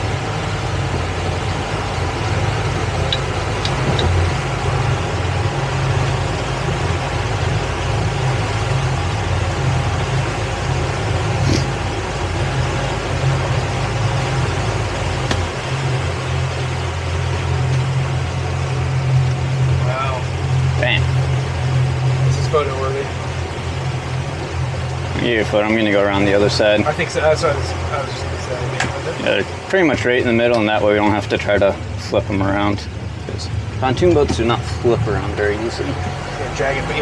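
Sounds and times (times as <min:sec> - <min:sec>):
boat engine humming: 0:00.0 - 0:37.0.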